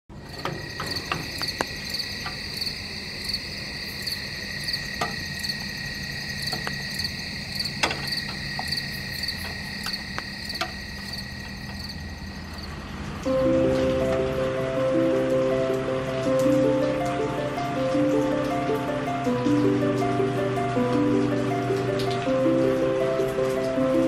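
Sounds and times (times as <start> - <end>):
crickets and insects droning: 0.1 - 24.0
pulsing insect chirp: 0.1 - 24.0.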